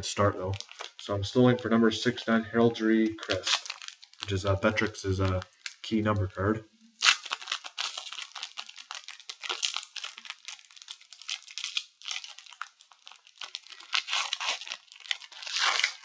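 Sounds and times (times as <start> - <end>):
foil wrapper crinkling and tearing: 0.1 - 2.2, 2.8 - 6.3, 6.9 - 16.0.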